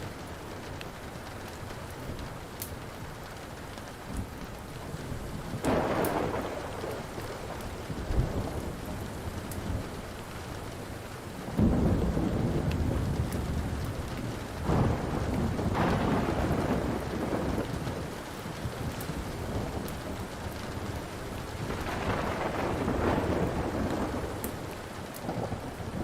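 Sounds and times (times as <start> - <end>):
steady rain: 0.0 - 26.0
wood fire crackles: 0.0 - 26.0
thunder rumbling: 3.8 - 26.0.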